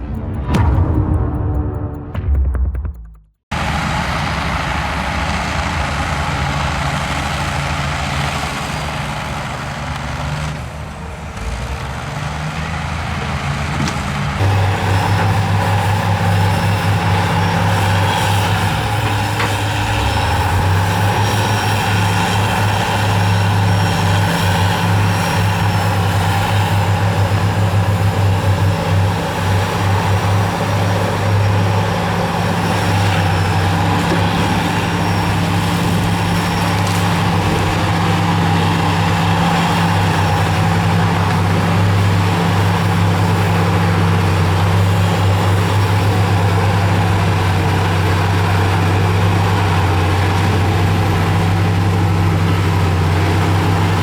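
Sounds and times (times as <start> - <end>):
heavy diesel machinery running: 0.0 - 2.7, 3.5 - 54.0.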